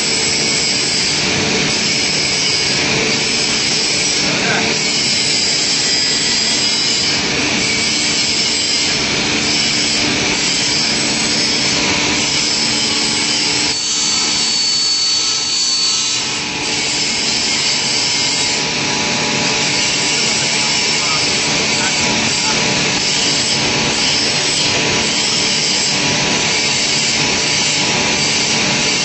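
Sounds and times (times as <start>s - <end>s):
thin high whine: 0.0s - 29.0s
woodworking machine hissing: 0.0s - 29.0s.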